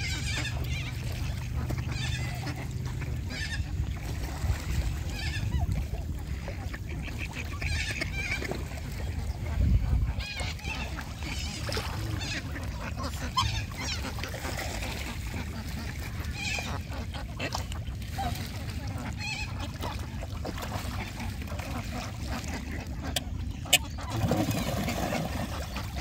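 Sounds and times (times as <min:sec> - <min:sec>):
geese honking: 0:00.0 - 0:04.0, 0:05.0 - 0:17.8, 0:18.4 - 0:26.0.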